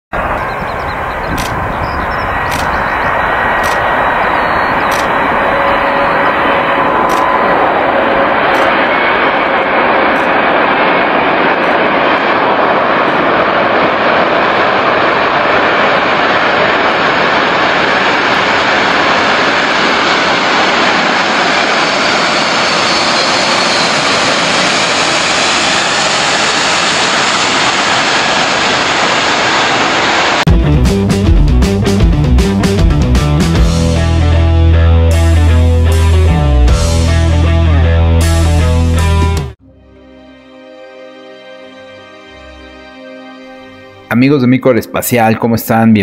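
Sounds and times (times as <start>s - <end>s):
loud jet engine roar: 0.1s - 39.7s.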